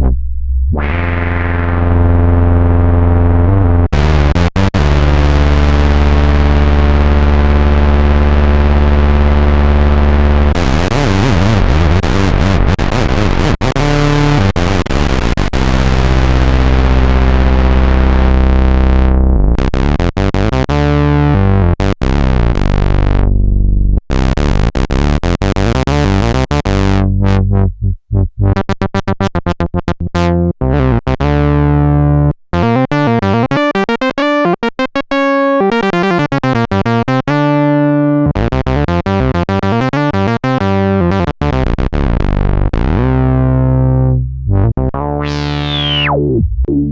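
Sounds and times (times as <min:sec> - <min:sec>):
analog synthesizer notes: 0:00.0 - 0:46.9.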